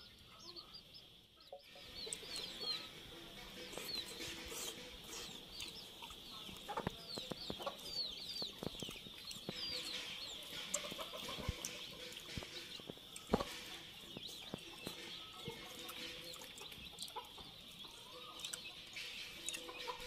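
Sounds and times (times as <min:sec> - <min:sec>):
chicks peeping: 0:00.0 - 0:20.0
hen clucking: 0:01.4 - 0:20.0
chewing clicks and smacks: 0:03.6 - 0:20.0.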